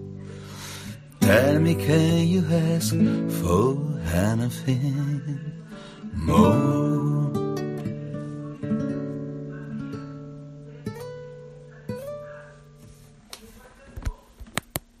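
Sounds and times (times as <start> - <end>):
guitar chord ringing: 0.0 - 12.7.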